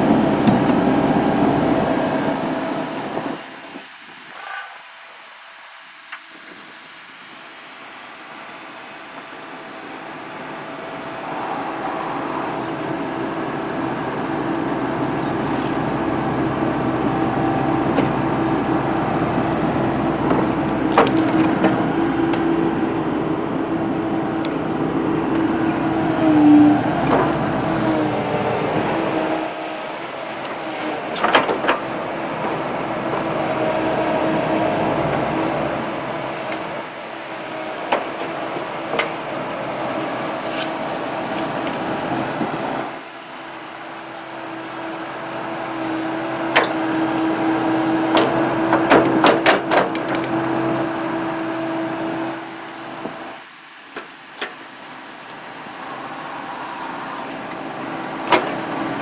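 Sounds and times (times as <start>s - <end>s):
excavator engine humming: 0.0s - 4.8s, 8.1s - 59.0s.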